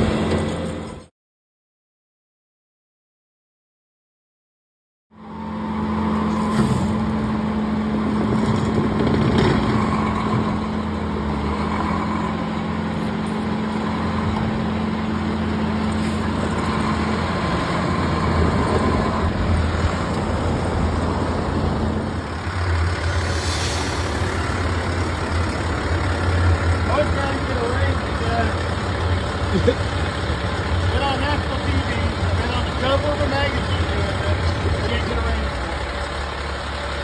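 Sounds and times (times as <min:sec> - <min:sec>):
truck diesel engine running: 0:05.2 - 0:37.0.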